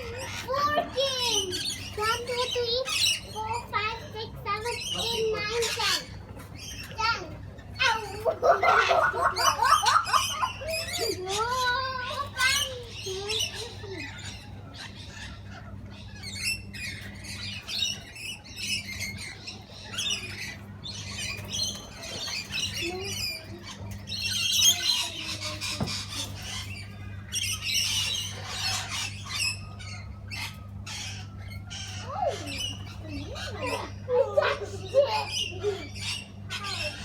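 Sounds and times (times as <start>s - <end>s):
parrots squawking and chattering: 0.0s - 37.0s.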